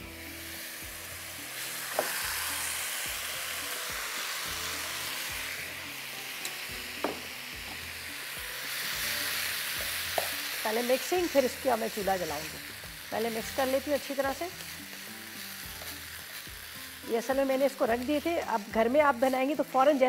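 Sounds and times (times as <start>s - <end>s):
sizzling hiss in a wok: 0.0s - 20.0s.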